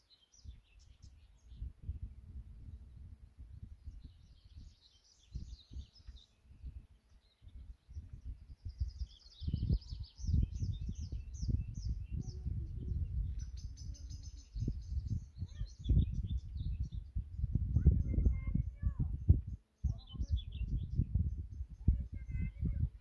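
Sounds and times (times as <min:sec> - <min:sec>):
songbirds singing: 0:00.0 - 0:23.0
wind gusts on microphone: 0:00.3 - 0:23.0.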